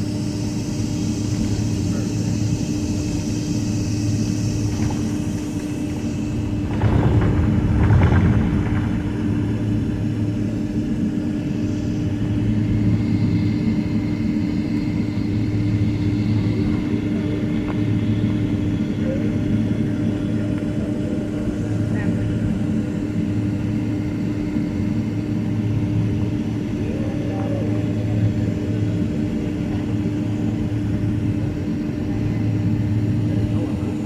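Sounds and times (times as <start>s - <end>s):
airliner cabin hum: 0.0s - 34.0s
loud rumble: 0.0s - 34.0s.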